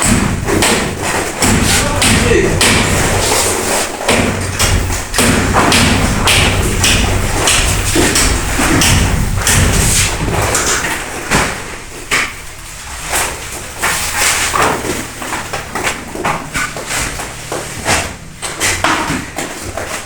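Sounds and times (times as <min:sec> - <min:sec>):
heavy thuds of building work: 0:00.0 - 0:20.0.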